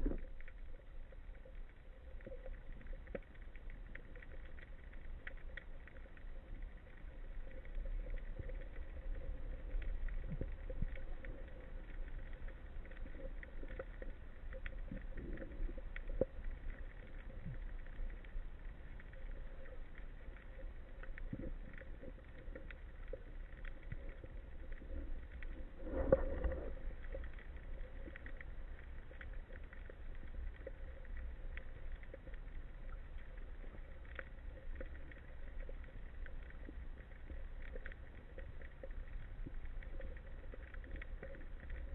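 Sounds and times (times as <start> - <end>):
faint crackling clicks underwater: 0.0 - 41.9
faint steady hum: 0.0 - 41.9
low underwater rumble: 0.0 - 41.9.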